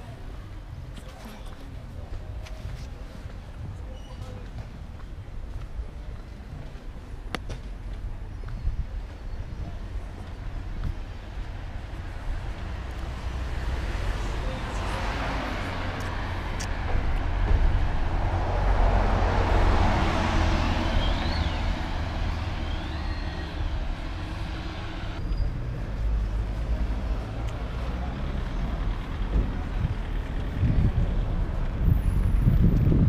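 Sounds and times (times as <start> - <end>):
cars and bus passing: 0.0 - 33.0.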